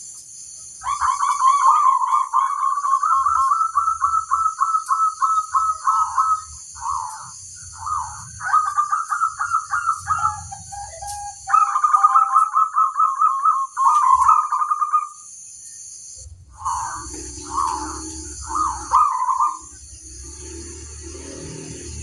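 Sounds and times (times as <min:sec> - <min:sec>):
steady high buzz: 0:00.0 - 0:22.0
dove cooing: 0:00.8 - 0:15.2, 0:16.5 - 0:22.0.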